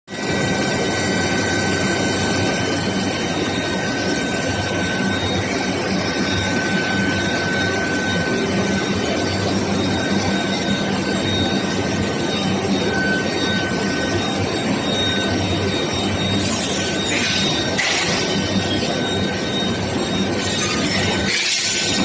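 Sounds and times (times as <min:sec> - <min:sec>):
high machine whine: 0:00.1 - 0:22.0
low machine hum: 0:00.2 - 0:22.0.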